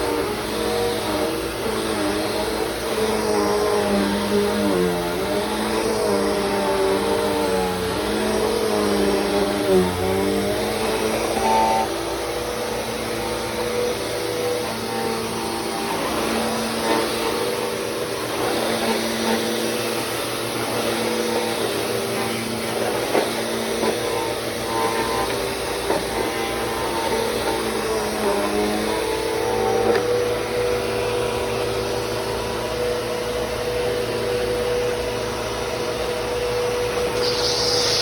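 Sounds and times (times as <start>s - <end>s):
vacuum cleaner motor hum: 0.0s - 38.0s.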